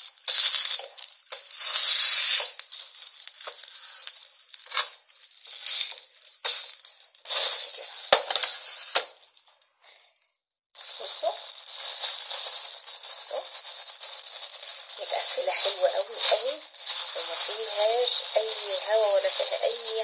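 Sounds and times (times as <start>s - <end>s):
plastic and foil crinkling: 0.0s - 20.0s.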